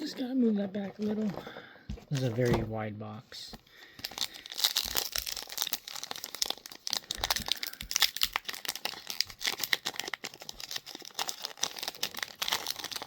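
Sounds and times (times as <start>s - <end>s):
trading cards crinkling: 0.0s - 2.7s, 3.4s - 13.0s.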